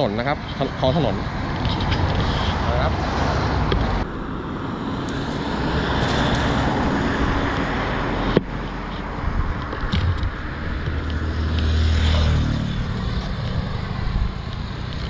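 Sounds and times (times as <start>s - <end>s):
road traffic rumble: 0.0s - 15.0s
wind on microphone: 0.9s - 15.0s.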